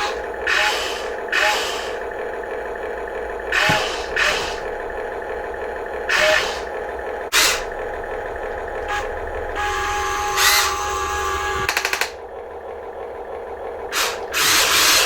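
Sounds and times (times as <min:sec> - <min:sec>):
machinery mechanical whine: 0:00.0 - 0:15.0.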